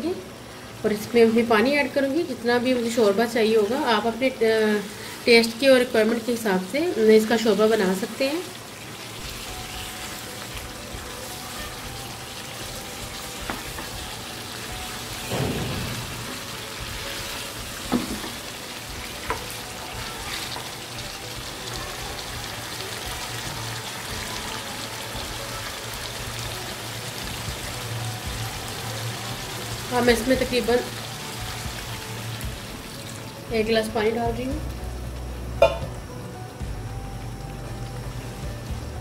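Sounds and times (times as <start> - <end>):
chicken sizzling in oil: 0.0 - 39.0.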